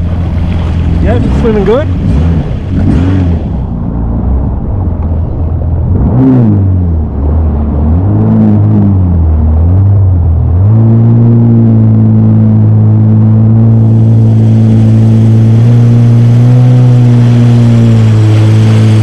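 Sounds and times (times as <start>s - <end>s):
jet ski engine revving: 0.0s - 19.0s.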